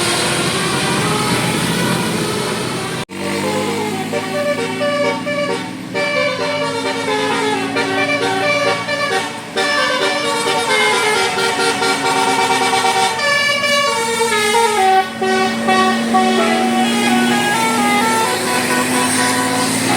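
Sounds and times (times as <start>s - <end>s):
bus air horns playing a tune: 0.0s - 19.9s.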